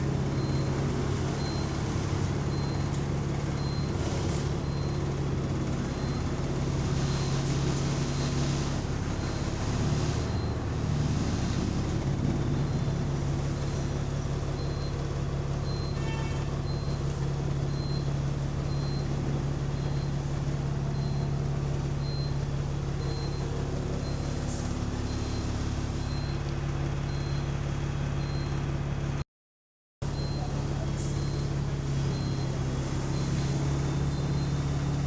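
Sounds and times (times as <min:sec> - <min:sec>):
bus engine droning: 0:00.0 - 0:29.2, 0:30.0 - 0:35.0.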